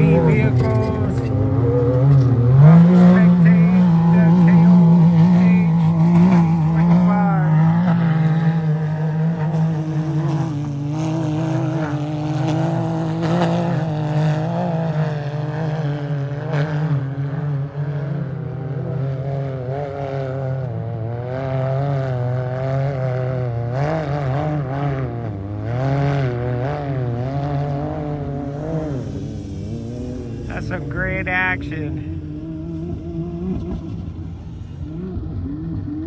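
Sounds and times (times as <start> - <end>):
race vehicle engines revving: 0.0 - 36.0.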